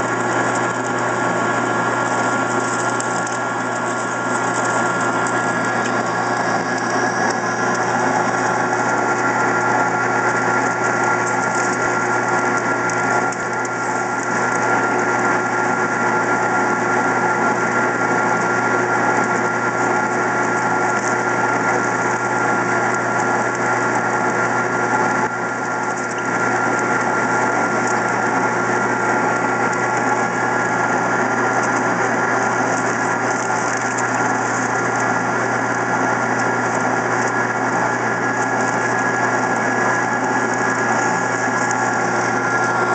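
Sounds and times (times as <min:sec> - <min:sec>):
metal lathe humming and whining: 0:00.0 - 0:42.9.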